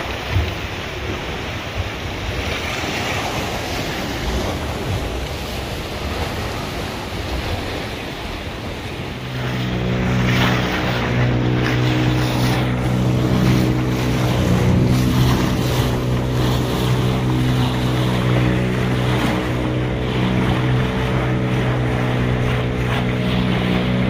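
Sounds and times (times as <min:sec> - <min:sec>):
motorboat engine humming: 0:00.0 - 0:24.0
water rushing: 0:00.0 - 0:24.0
wind: 0:00.0 - 0:24.0.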